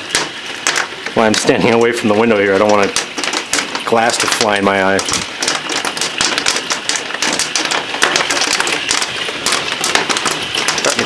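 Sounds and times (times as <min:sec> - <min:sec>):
hail clattering on house: 0:00.0 - 0:11.0.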